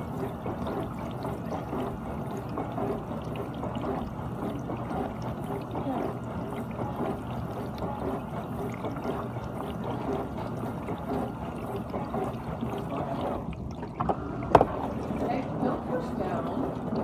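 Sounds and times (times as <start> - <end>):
dishwasher water spraying and sloshing: 0.0 - 17.0.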